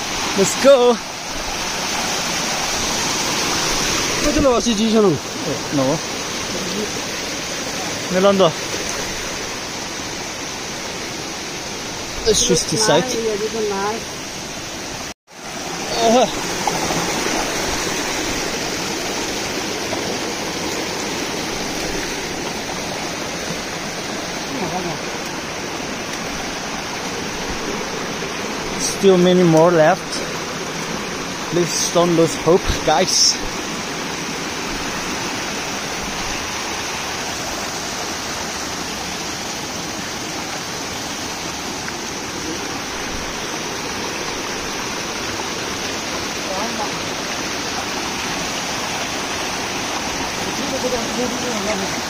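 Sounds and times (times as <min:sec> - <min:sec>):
stream rushing over stones: 0:00.0 - 0:52.0.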